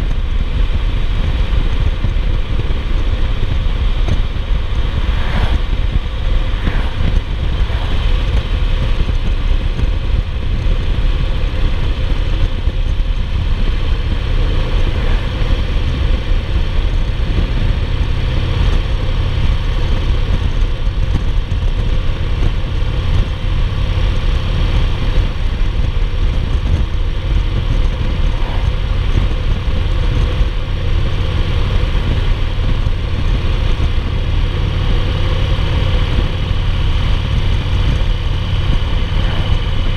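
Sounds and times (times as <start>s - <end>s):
motorcycle engine rumble: 0.0s - 39.9s
wind and road noise: 0.0s - 39.9s.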